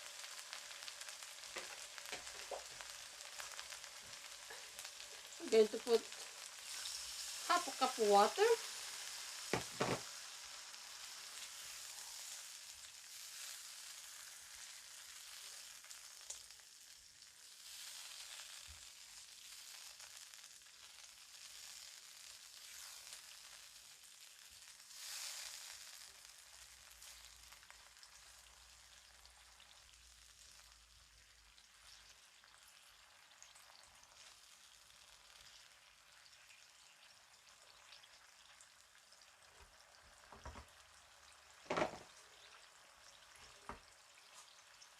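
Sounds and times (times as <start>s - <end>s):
chicken sizzling in a frying pan: 0.0s - 44.9s.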